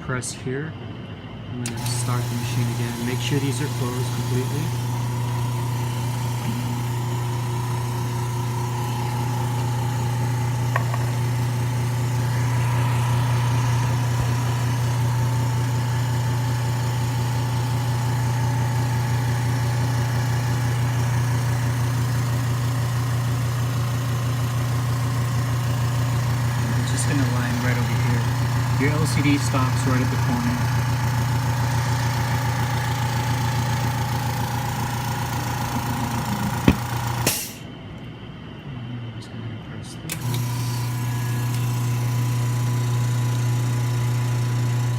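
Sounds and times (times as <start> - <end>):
motor hum with fast pulsing: 1.1 - 39.0, 40.0 - 44.9.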